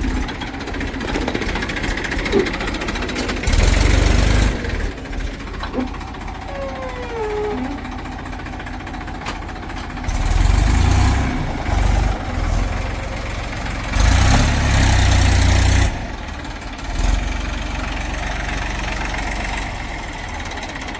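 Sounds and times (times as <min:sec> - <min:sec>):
diesel engine idling and surging: 0:00.0 - 0:20.9.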